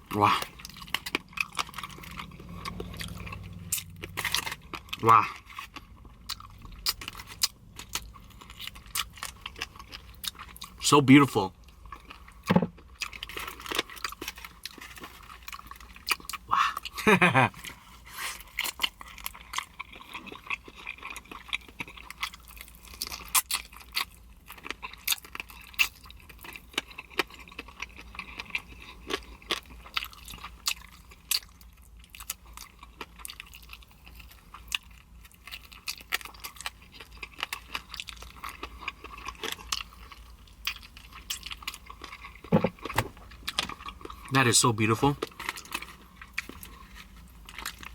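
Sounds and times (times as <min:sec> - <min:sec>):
chewing crispy chicken wings: 0:00.0 - 0:47.9.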